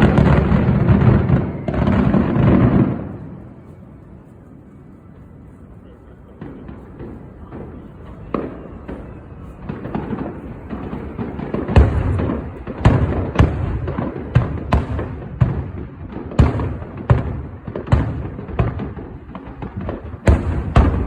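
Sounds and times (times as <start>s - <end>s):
fireworks booms: 0.0s - 3.6s, 6.3s - 21.0s
fireworks crackling: 0.0s - 21.0s.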